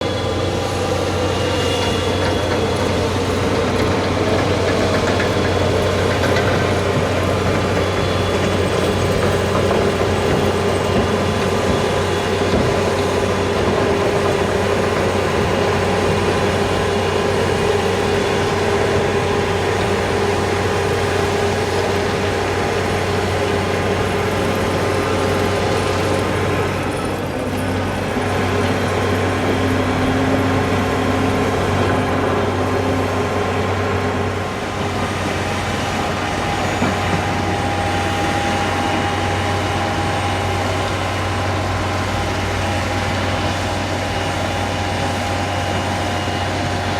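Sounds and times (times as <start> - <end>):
heavy vehicle engine humming: 0.0 - 46.9.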